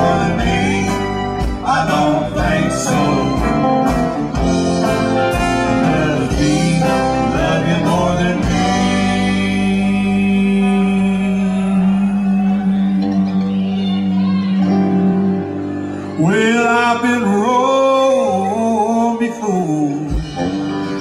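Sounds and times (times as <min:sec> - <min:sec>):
bending melodic line: 0:00.0 - 0:17.6
live country band music: 0:00.0 - 0:21.0.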